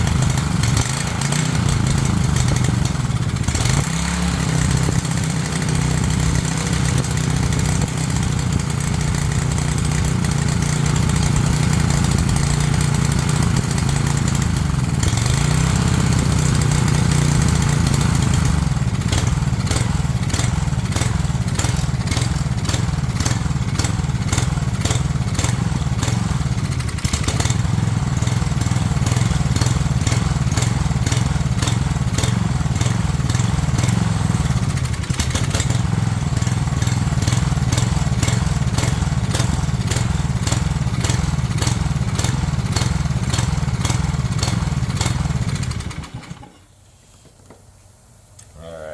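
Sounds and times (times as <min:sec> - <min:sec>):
small engine running: 0:00.0 - 0:46.6.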